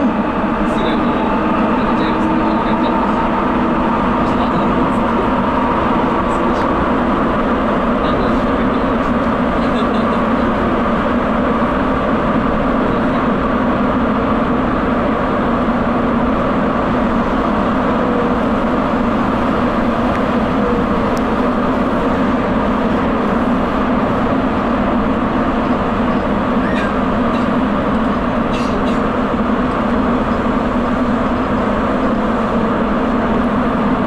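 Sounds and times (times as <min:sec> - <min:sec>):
subway train rolling in tunnel: 0:00.0 - 0:34.0.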